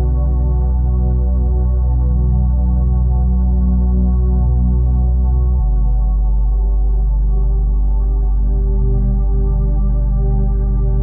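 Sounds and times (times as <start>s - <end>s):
ambient synthesizer drone: 0.0s - 11.0s.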